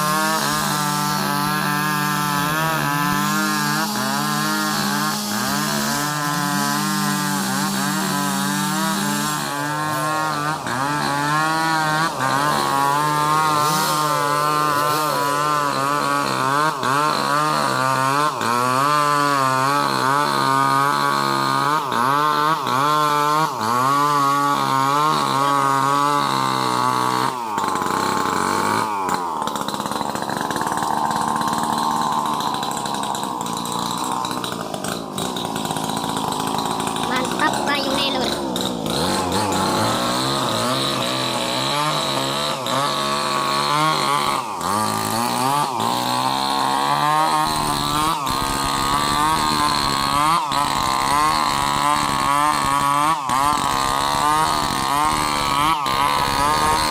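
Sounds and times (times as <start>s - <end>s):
chainsaws cutting wood: 0.0s - 56.9s.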